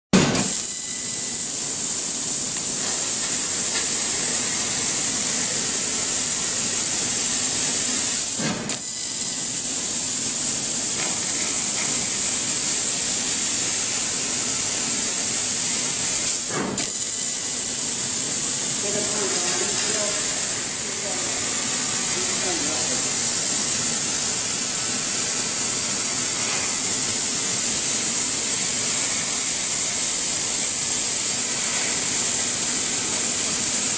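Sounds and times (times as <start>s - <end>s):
laser cutter gas jet hissing: 0.2s - 33.9s.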